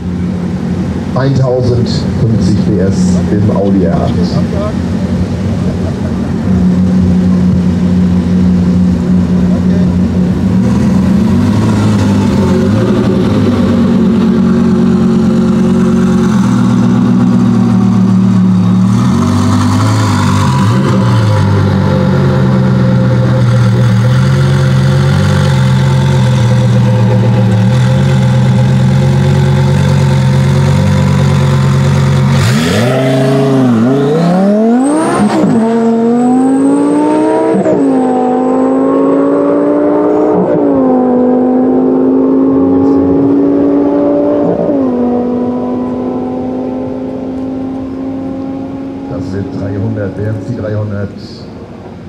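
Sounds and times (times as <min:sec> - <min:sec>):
car accelerating with upshifts: 0:00.0 - 0:52.0
car engine idling and revving: 0:00.0 - 0:52.0.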